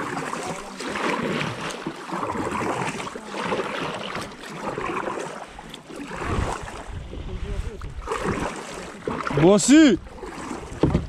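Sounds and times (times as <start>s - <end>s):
kayak paddle strokes in water: 0.0s - 11.0s.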